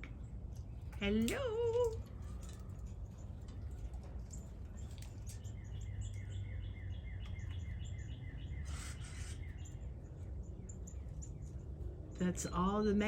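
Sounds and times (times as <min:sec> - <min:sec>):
birds calling sharp chip notes: 0:00.0 - 0:13.0
low background rumble: 0:00.0 - 0:13.0.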